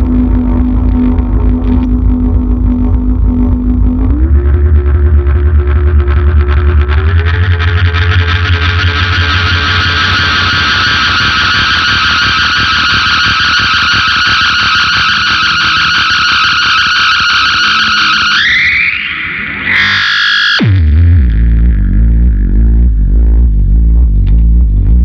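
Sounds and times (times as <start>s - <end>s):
fuzzed electric guitar note: 0.0s - 25.0s.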